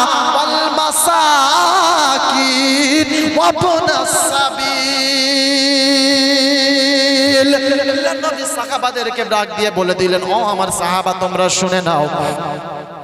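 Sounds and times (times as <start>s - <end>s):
man chanting melodically: 0.0s - 12.8s.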